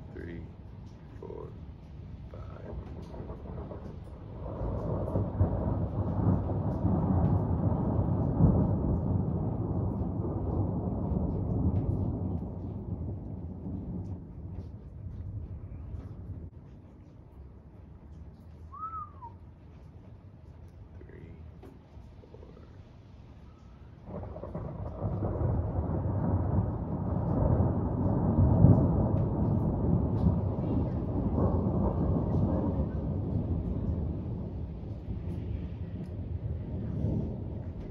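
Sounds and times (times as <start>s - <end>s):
thunder rumbling: 0.0s - 37.9s.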